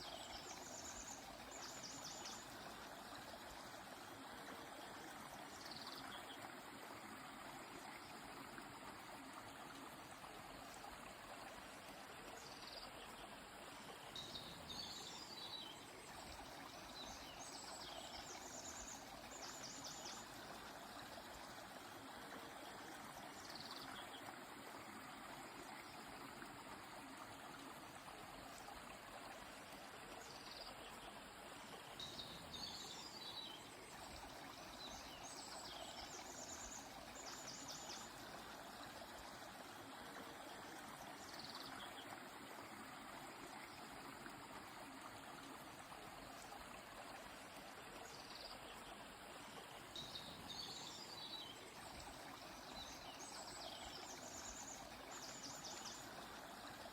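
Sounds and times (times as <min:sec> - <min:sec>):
faint flowing river: 0:00.0 - 0:56.9.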